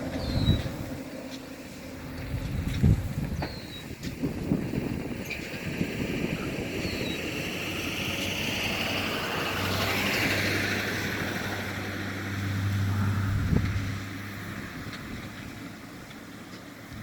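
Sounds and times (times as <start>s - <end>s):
wind buffeting microphone: 0.0s - 1.2s, 1.8s - 17.0s.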